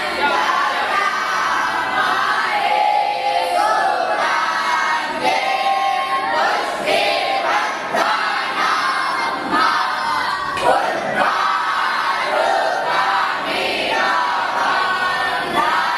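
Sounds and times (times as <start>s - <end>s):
boys chanting in unison: 0.0s - 15.9s.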